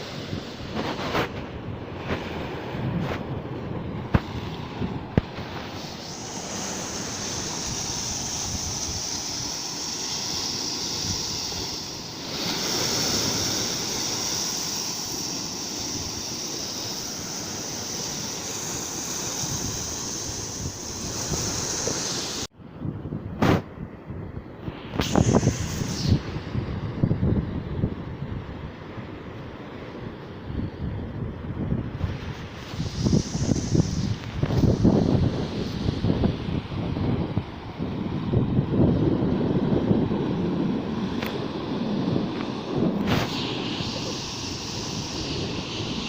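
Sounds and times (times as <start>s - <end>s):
sea surf washing on shore: 0.0s - 24.0s, 24.6s - 46.0s
wind on microphone: 0.0s - 46.0s.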